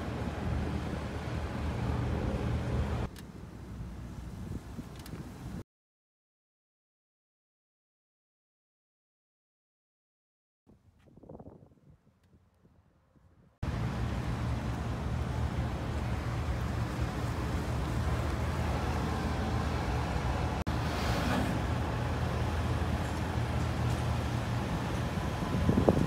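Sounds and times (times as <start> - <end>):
road and wind noise: 0.0 - 5.6, 10.7 - 26.0.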